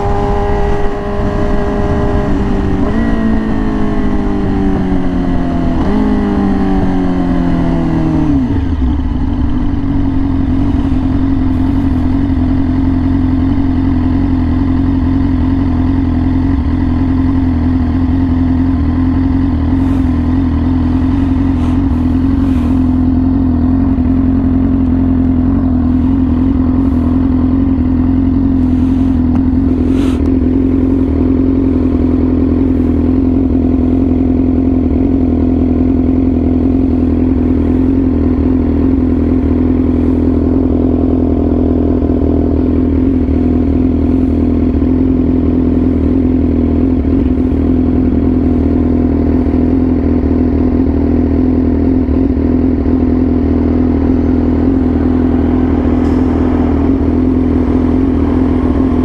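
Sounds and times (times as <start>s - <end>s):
sport bike engine running: 0.0s - 59.0s.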